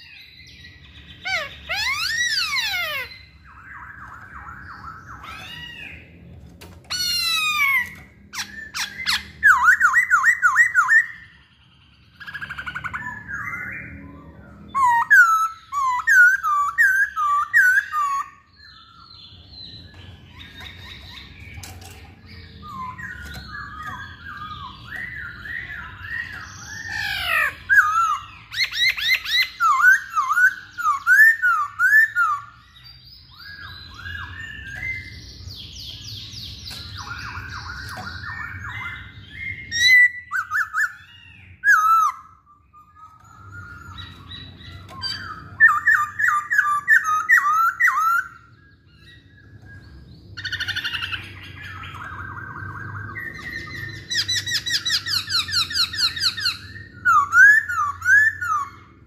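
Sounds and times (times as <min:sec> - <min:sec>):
bird singing whistled notes: 0:06.9 - 0:59.0.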